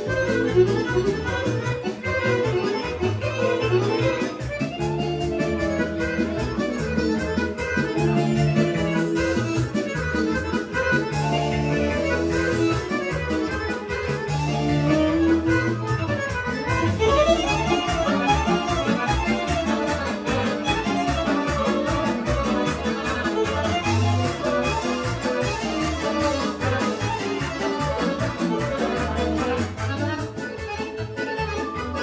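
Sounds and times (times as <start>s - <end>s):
accordion: 0.0s - 32.0s
fiddle: 0.0s - 32.0s
folk band playing dance music: 0.0s - 32.0s.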